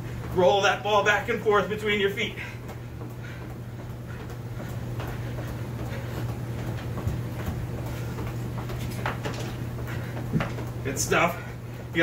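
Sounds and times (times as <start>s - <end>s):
shoes tapping soccer ball on carpet: 0.0s - 12.0s
steady low hum: 0.0s - 12.0s.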